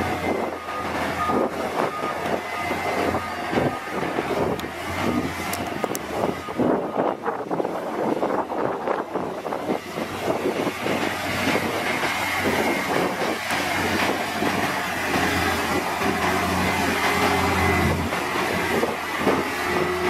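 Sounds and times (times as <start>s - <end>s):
diesel engine running: 0.0s - 20.0s
steel tracks clanking and rattling: 0.0s - 20.0s.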